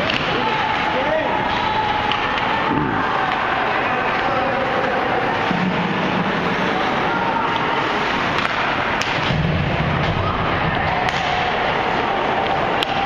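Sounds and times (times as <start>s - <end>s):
hockey sticks and puck clacking: 0.0s - 13.0s
ice rink crowd din: 0.0s - 13.0s.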